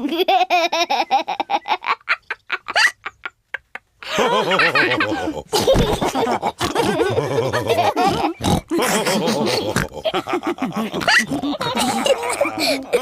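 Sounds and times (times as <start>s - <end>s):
cartoon pigs laughing and oinking: 0.0s - 13.0s.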